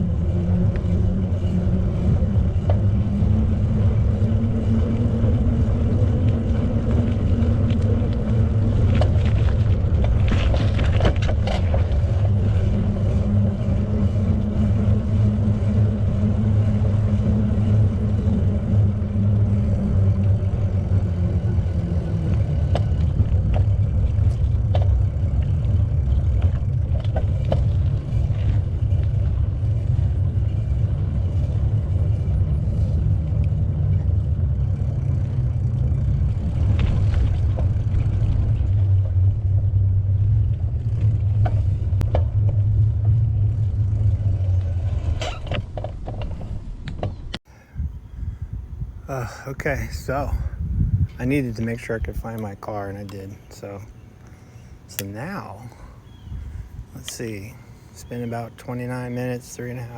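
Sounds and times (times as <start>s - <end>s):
bicycle tyre noise: 0.0s - 58.2s
wind buffeting microphone: 0.0s - 59.9s.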